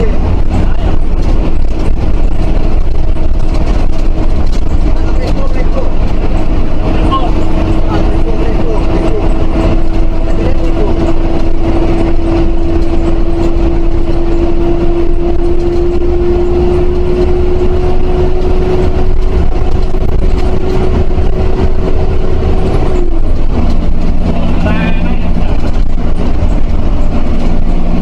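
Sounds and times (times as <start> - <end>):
bus diesel engine rumble: 0.0 - 28.0
steady engine whine: 0.0 - 28.0.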